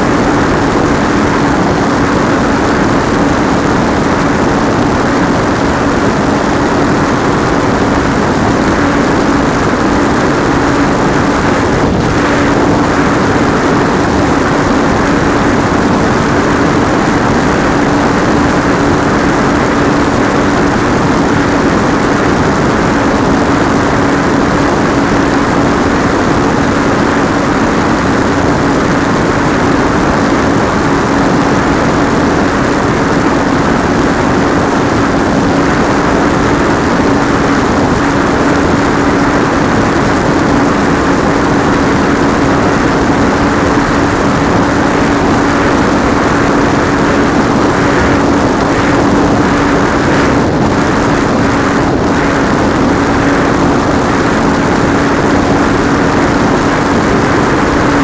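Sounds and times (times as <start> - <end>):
electric motor and propeller buzzing: 0.0 - 58.0
wind rush: 0.0 - 58.0.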